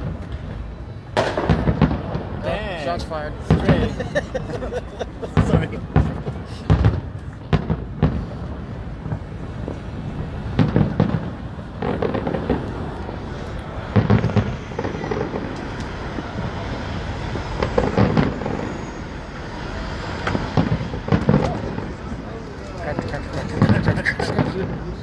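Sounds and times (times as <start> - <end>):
fireworks bursting and crackling: 0.0 - 25.0
rumble of explosions: 0.0 - 25.0.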